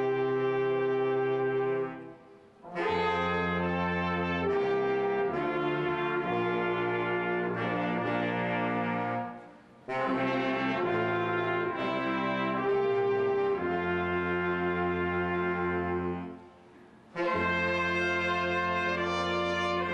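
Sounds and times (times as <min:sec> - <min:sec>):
brass band playing slow chords: 0:00.0 - 0:19.9.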